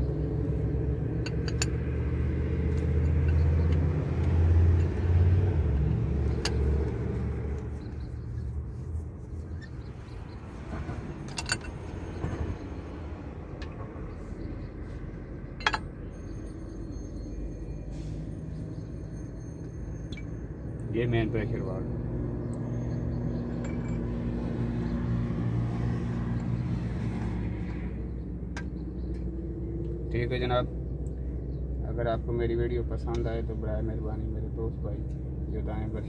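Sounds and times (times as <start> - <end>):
vehicle engine rumbling: 0.0 - 36.0.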